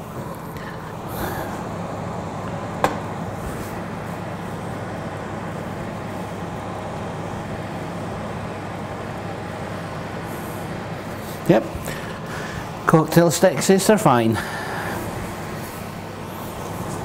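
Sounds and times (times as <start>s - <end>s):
oven fan whirring: 0.0s - 17.0s.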